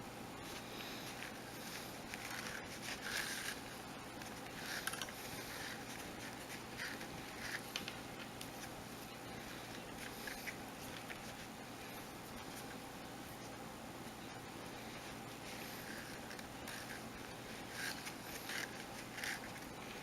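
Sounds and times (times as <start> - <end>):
faint steady hum: 0.0 - 20.0
cord rustling and scraping: 0.4 - 12.8, 14.8 - 20.0.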